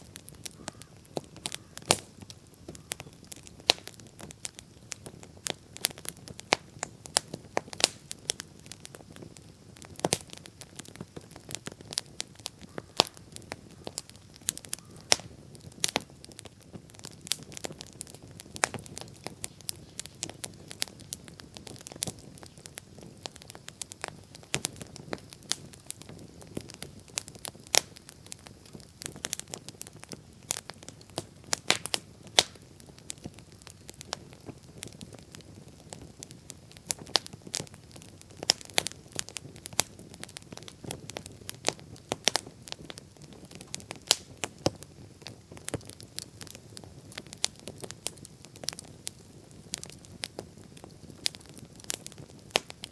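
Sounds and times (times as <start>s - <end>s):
bonfire crackling and popping: 0.0s - 52.9s.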